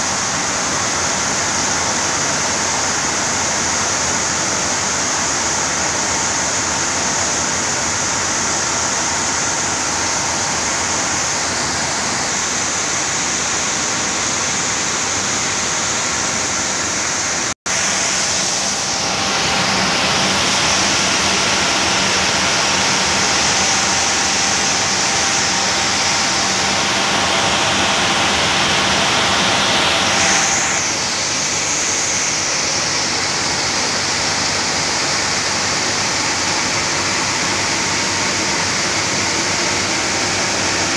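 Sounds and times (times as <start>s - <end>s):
mill machinery whirring: 0.0s - 40.9s.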